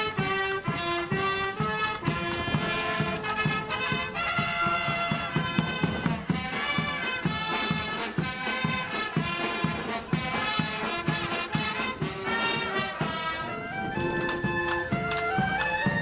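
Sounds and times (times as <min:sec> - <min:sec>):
steady drum beat: 0:00.0 - 0:16.0
trumpets playing melody: 0:00.0 - 0:16.0.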